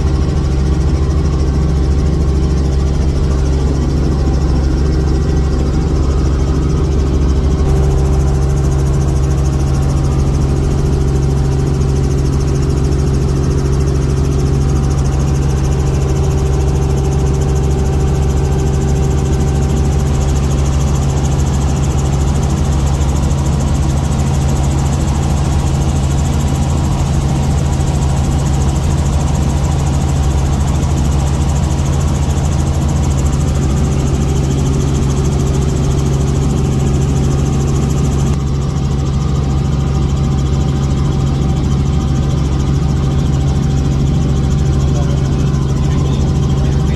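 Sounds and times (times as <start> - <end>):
helicopter engine and rotor drone: 0.0 - 46.9.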